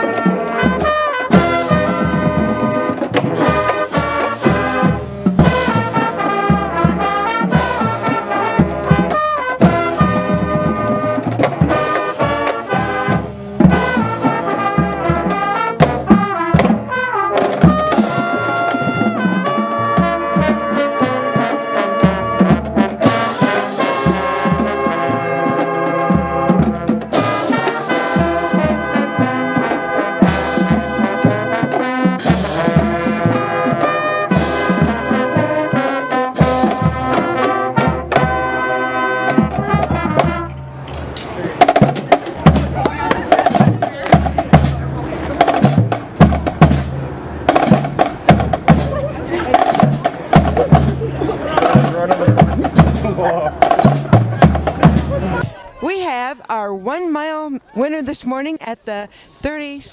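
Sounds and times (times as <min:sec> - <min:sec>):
steady drum beat: 0:00.0 - 0:58.4
brass instrumental music: 0:00.0 - 0:59.9.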